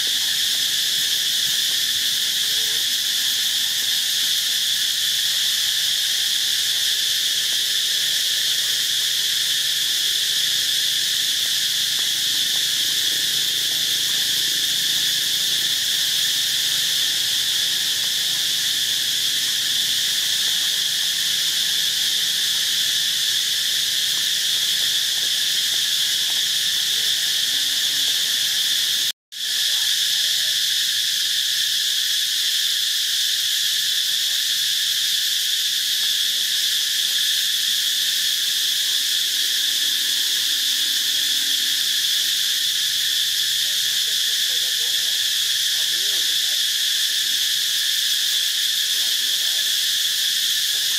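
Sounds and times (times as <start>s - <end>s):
shrill insect chorus drone: 0.0s - 50.9s.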